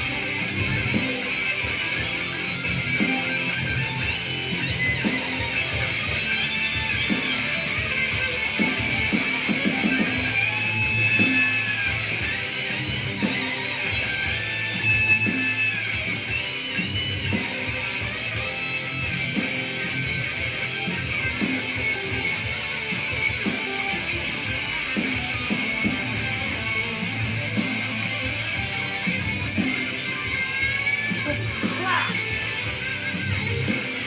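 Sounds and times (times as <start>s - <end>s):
rock music with electric guitar: 0.0s - 34.0s.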